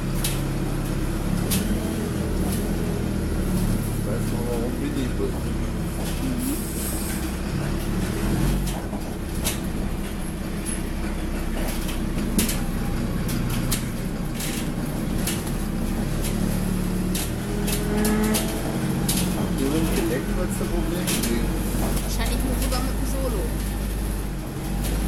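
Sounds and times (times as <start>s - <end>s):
rattles and knocks from bus body: 0.0s - 6.4s, 7.0s - 25.0s
bus diesel engine running: 0.0s - 25.0s.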